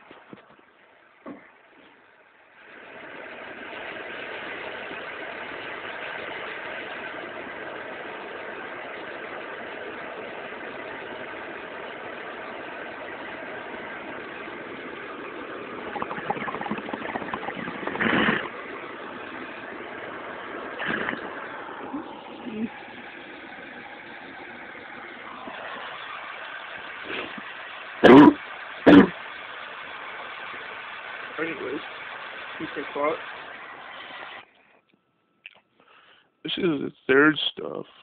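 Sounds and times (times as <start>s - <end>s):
crackly bursts: 1.4s - 34.8s
torch flame hissing: 2.6s - 34.5s.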